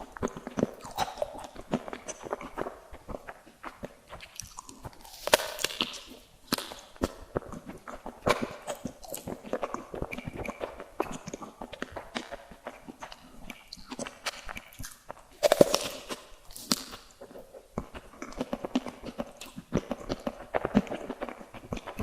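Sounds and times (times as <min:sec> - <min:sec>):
crunchy chewing of sweets: 0:00.0 - 0:22.0.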